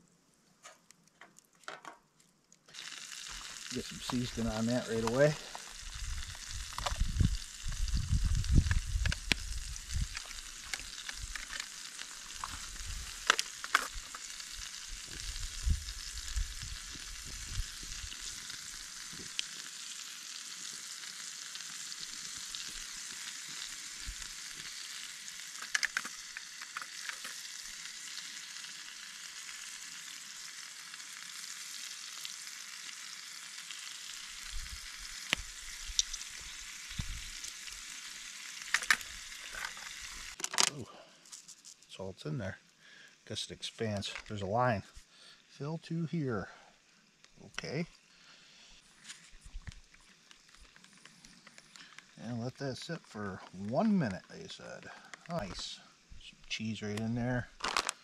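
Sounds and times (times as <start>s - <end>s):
steak sizzling in a pan: 2.7s - 40.4s, 42.6s - 58.0s.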